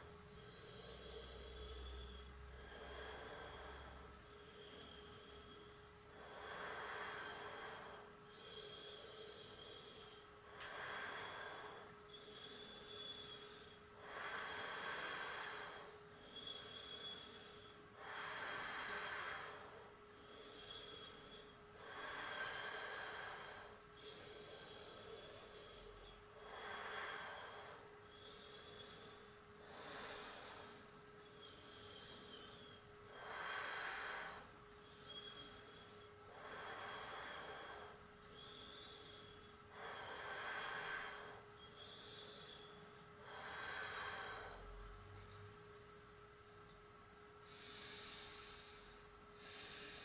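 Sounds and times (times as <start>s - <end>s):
person breathing deeply: 0.0s - 45.4s, 47.4s - 50.0s
faint steady hum: 0.0s - 50.0s.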